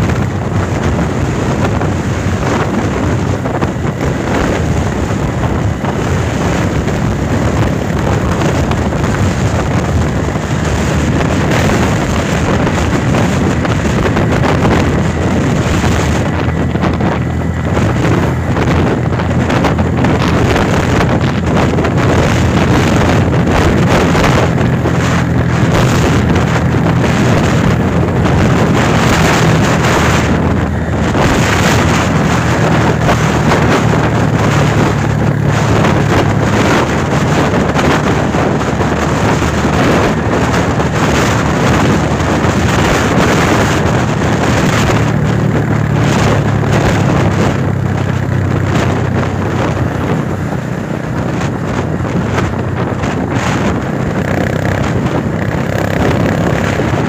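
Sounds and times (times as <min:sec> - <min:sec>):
engine humming: 0:00.0 - 0:57.0
wind noise on microphone: 0:00.0 - 0:57.0.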